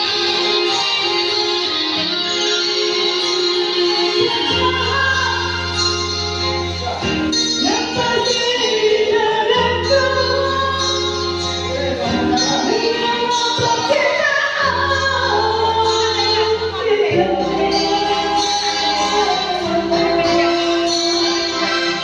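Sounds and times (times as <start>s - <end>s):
woman singing: 0.0s - 6.4s, 7.5s - 22.0s.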